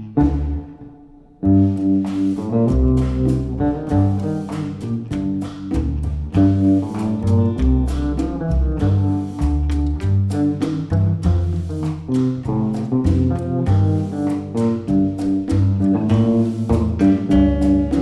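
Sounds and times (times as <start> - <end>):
lively instrumental music: 0.0 - 18.0.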